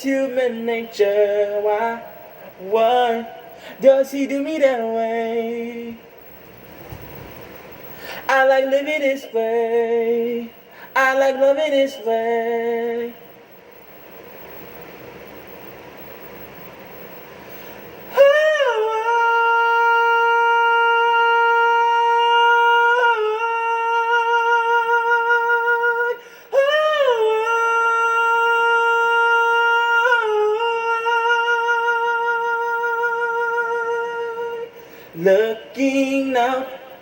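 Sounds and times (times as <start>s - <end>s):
man singing: 0.0s - 6.1s, 8.2s - 13.2s, 18.1s - 37.0s.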